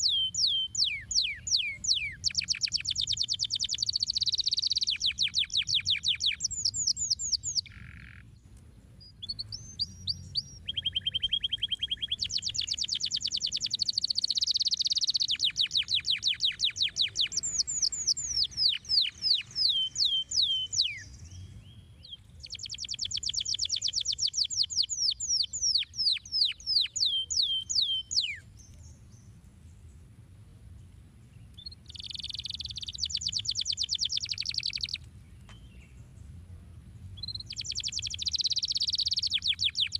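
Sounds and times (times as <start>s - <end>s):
canary singing trills: 0.0s - 8.4s, 9.0s - 29.4s, 31.4s - 36.0s, 37.2s - 39.9s.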